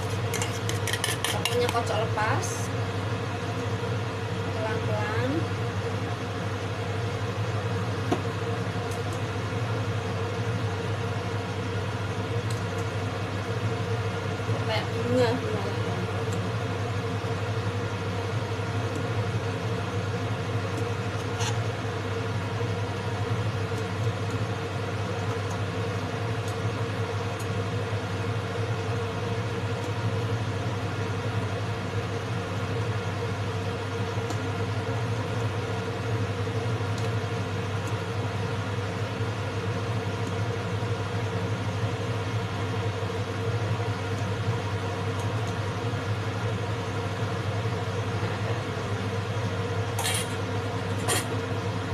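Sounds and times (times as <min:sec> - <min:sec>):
kitchen fan humming: 0:00.0 - 0:51.9.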